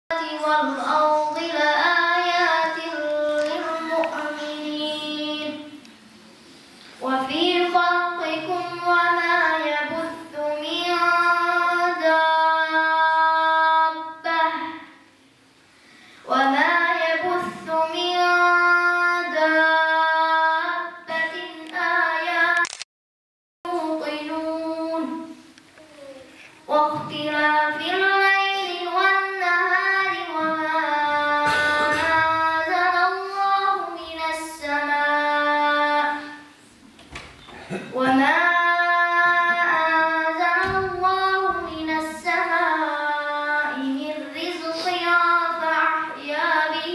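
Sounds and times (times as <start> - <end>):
boy chanting melodic recitation: 0.1 - 5.8, 7.0 - 15.0, 16.2 - 22.6, 23.7 - 36.6, 37.6 - 46.9.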